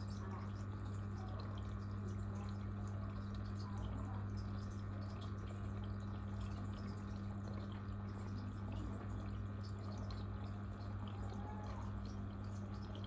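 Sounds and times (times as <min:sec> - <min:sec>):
aquarium water trickling: 0:00.0 - 0:13.0
low electrical hum: 0:00.0 - 0:13.0.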